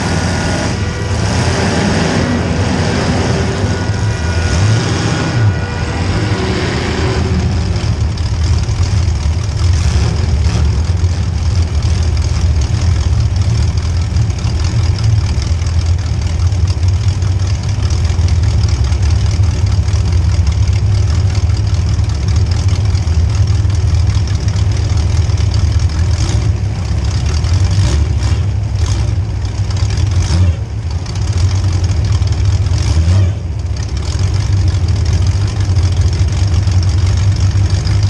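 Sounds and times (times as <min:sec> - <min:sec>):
car engine running loud: 0:00.0 - 0:38.0.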